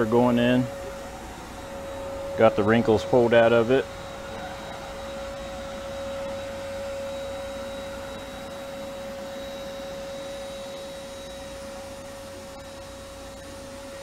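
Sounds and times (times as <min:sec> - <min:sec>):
shop vac running: 0:00.0 - 0:14.0.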